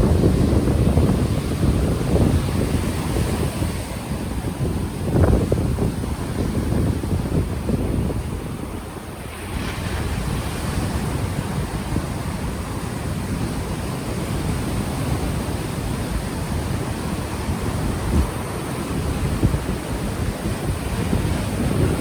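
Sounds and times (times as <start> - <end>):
ocean waves washing ashore: 0.0 - 22.0
wave breaking: 0.0 - 22.0
wind buffeting microphone: 0.0 - 22.0.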